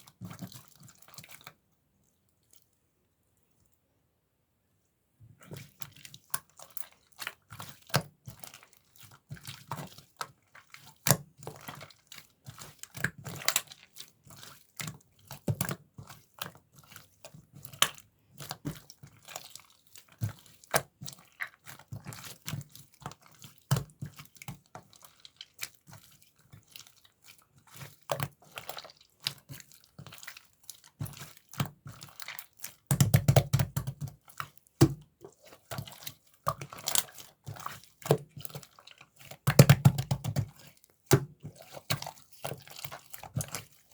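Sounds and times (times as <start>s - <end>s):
slime squelching: 0.0s - 2.8s, 5.3s - 43.9s.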